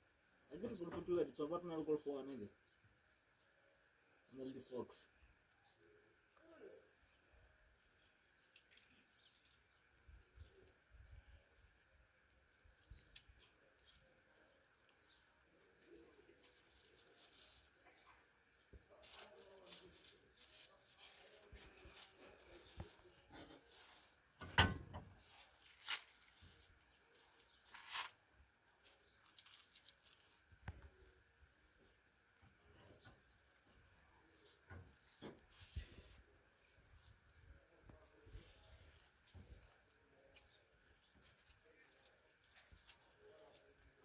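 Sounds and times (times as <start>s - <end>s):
faint bird chirps: 0.0s - 44.0s.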